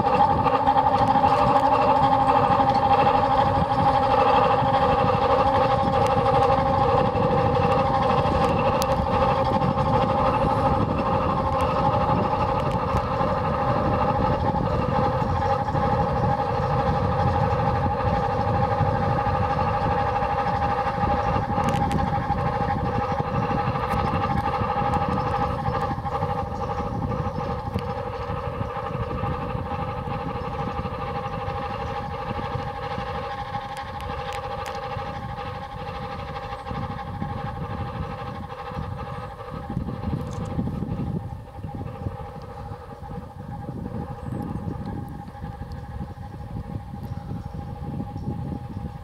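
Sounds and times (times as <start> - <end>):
rumble of train wheels: 0.0 - 49.0
train motor whine: 0.0 - 49.0.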